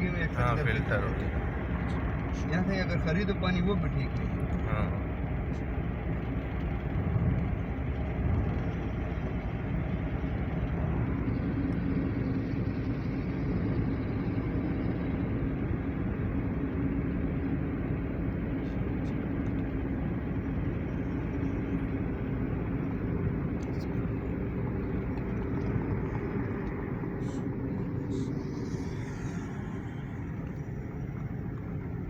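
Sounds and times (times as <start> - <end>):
steady low hum: 0.0 - 32.0
vehicle engine and road noise: 0.0 - 32.0.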